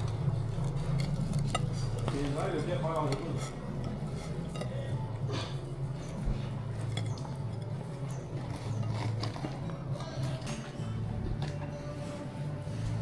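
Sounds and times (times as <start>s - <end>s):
cutlery and dishes clinking: 0.0s - 11.7s.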